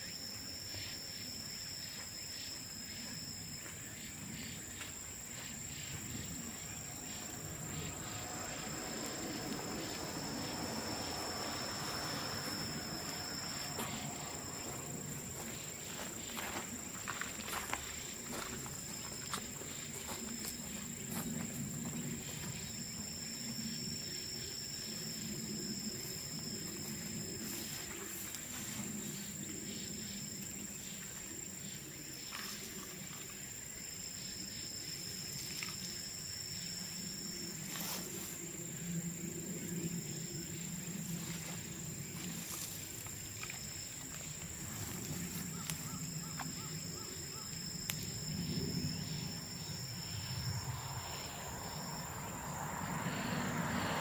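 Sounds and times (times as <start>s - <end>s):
high-pitched insect trill: 0.0s - 54.0s
intermittent insect trill: 0.0s - 54.0s.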